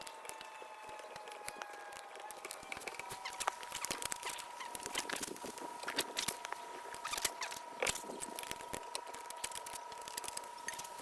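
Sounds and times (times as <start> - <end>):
objects clicking and rattling: 1.4 - 11.0.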